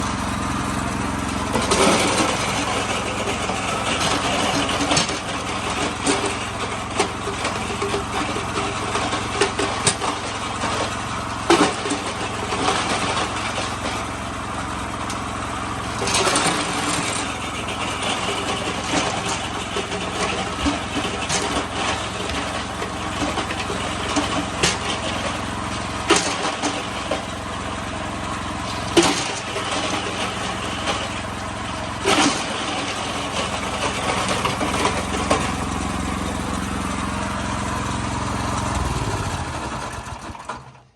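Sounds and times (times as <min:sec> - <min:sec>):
ice crusher motor humming: 0:00.0 - 0:40.9.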